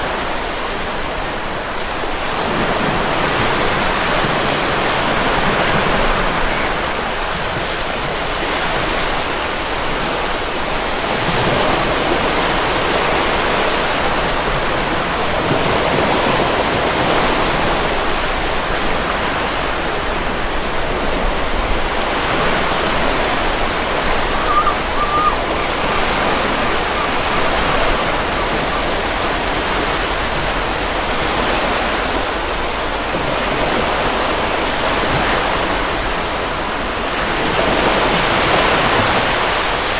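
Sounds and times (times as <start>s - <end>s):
stormy ocean waves breaking: 0.0s - 39.9s.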